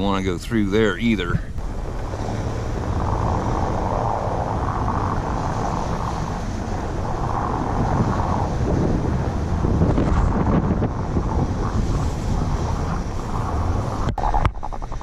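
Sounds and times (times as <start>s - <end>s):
truck engine rumbling: 0.0s - 15.0s
wind noise on microphone: 0.0s - 15.0s.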